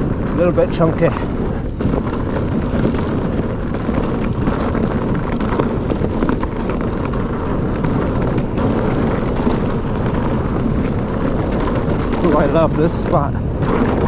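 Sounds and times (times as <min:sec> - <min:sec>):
bike clicks and rattles: 0:00.0 - 0:14.0
bike tyres rolling on rocky trail: 0:00.0 - 0:14.0
wind buffeting microphone: 0:00.0 - 0:14.0.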